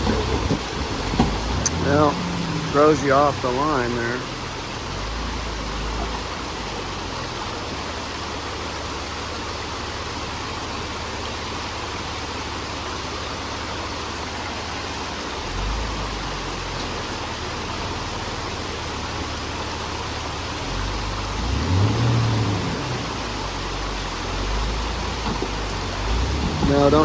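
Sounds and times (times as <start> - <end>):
engine rumbling slowly: 0.0 - 27.0.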